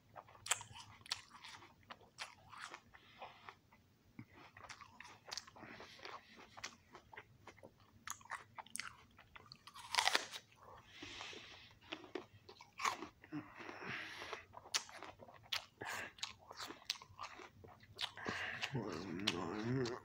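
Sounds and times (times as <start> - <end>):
person crunching an apple: 0.2 - 3.6, 4.4 - 13.7, 14.3 - 20.0.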